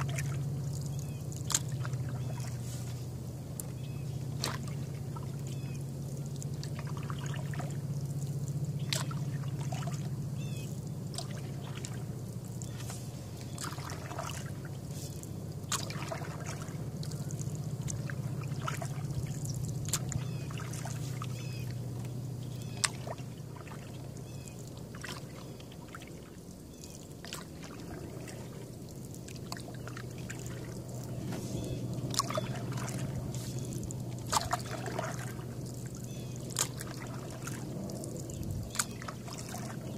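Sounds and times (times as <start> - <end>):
canoe paddle strokes in water: 0.0 - 39.9
steady low hum: 0.0 - 39.9
water dripping off paddle: 0.0 - 39.9.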